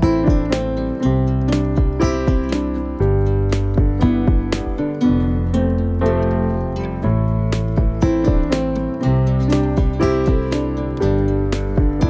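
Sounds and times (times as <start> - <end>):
plucked acoustic guitar tune: 0.0 - 12.0
steady bass: 0.0 - 12.0.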